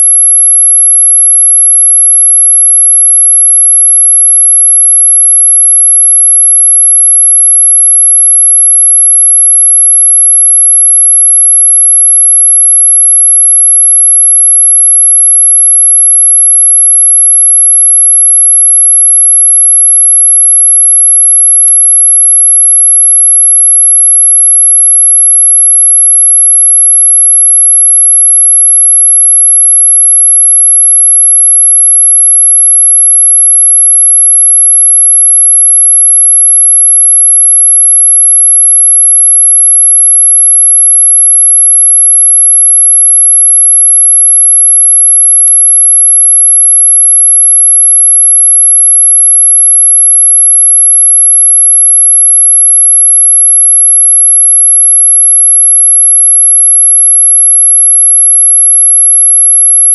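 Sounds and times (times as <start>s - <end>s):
high-pitched electronic sine tone: 0.0s - 59.9s.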